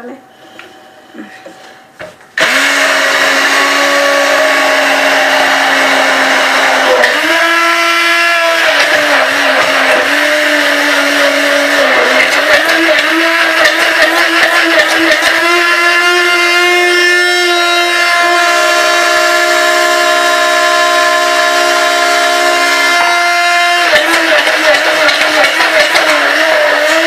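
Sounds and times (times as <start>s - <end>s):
electric blender running: 2.4s - 27.0s.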